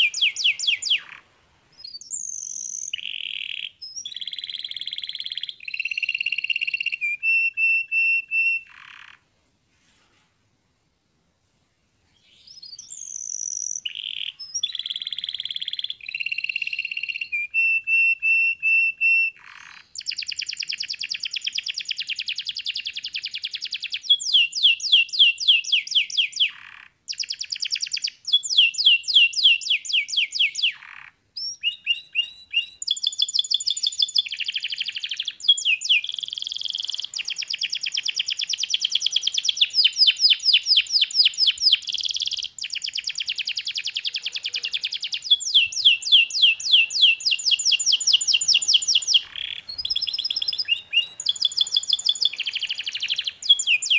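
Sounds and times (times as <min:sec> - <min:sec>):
canary singing: 0:00.0 - 0:09.3, 0:12.2 - 0:53.9.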